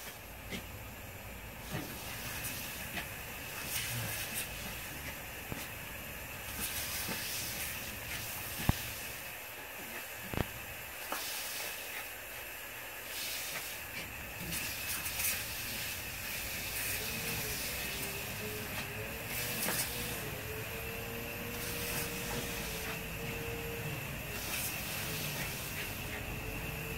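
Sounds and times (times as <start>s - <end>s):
lawn sprinkler hissing: 0.0s - 26.9s.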